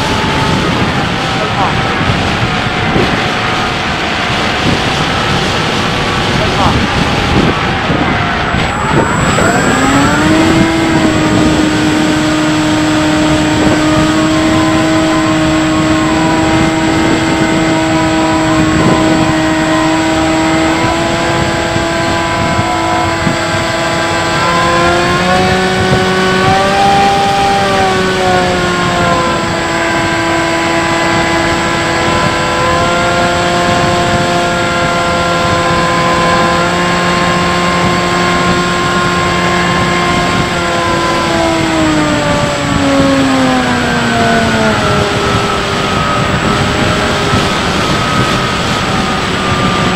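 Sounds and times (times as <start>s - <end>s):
model plane motor whine: 0.0s - 49.9s.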